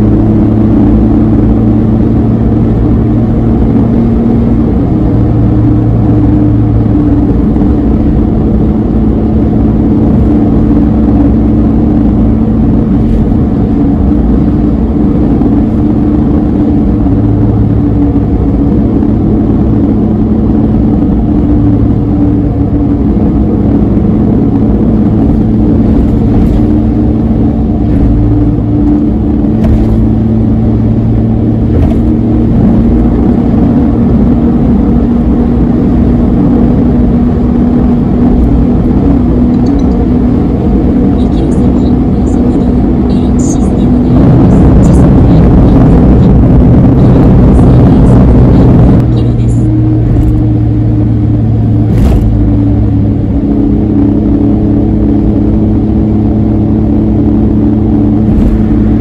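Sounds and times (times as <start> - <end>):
car engine droning: 0.0 - 59.0
tyre and road noise: 0.0 - 59.0.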